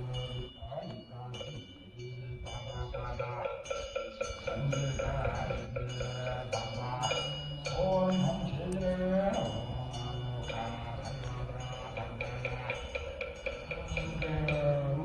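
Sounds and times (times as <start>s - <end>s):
low wavering voice-like sound: 0.0s - 15.0s
wind bells ringing: 0.0s - 15.0s.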